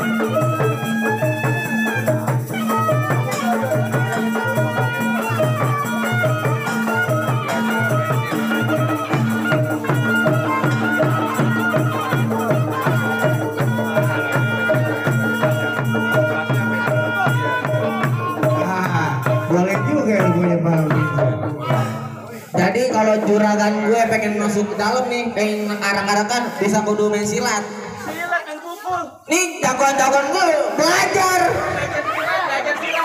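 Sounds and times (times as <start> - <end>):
drums beating fast rhythm: 0.0 - 33.0.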